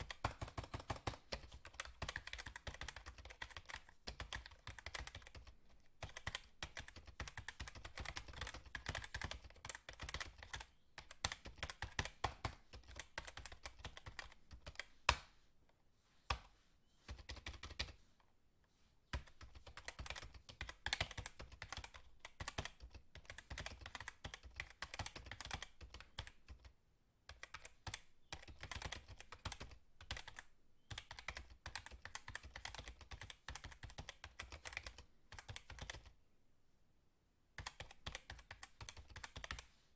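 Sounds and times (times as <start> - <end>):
fast typing on keyboard: 0.0 - 14.9, 17.1 - 17.9, 19.1 - 26.7, 27.3 - 36.2, 37.6 - 39.6.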